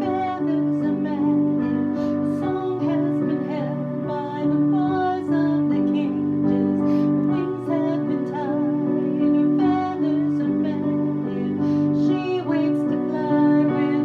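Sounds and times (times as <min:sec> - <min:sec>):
piano accompaniment: 0:00.0 - 0:14.0
woman singing with vibrato: 0:00.0 - 0:14.0.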